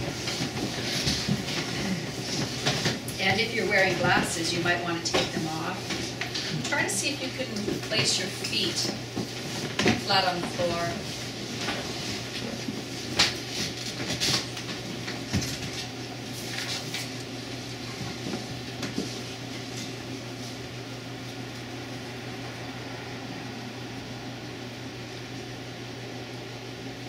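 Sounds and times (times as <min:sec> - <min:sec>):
room noise hum: 0:00.0 - 0:27.0.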